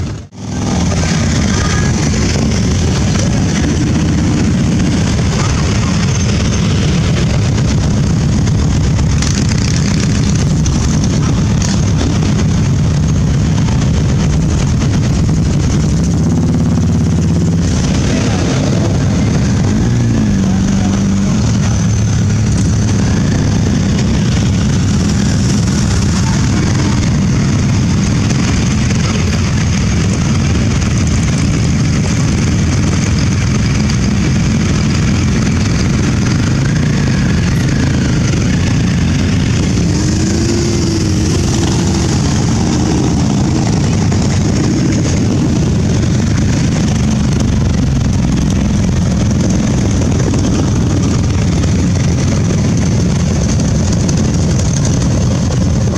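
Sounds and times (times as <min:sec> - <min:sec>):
motorcycles riding past: 0:00.0 - 0:55.9.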